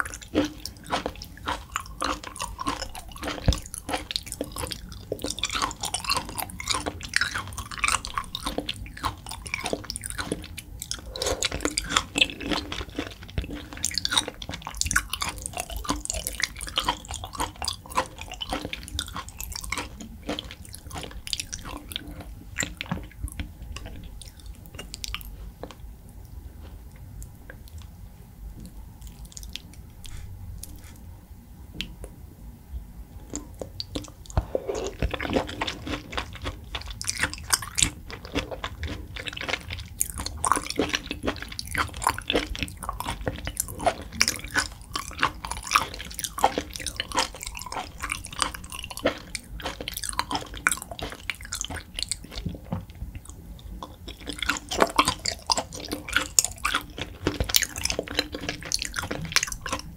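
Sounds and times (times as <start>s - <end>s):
person chewing: 0.0s - 27.9s, 28.6s - 31.1s, 33.2s - 59.9s.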